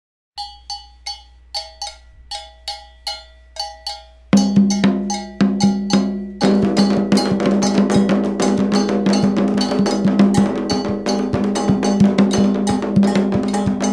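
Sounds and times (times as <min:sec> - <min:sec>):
hand drums: 0:00.4 - 0:13.9
metal double bell struck: 0:00.4 - 0:13.9.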